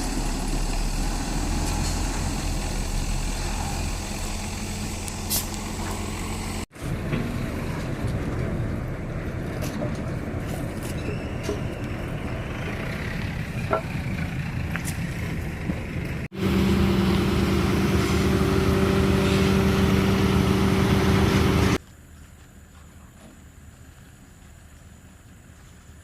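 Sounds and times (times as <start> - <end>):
diesel machinery engine running: 0.0 - 21.8.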